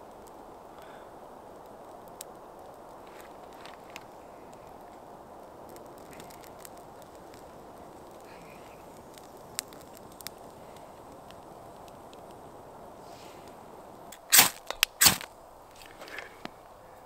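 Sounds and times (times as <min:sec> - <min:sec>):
campfire pops and crackles: 0:00.0 - 0:16.8
soft fire hiss: 0:00.0 - 0:17.0.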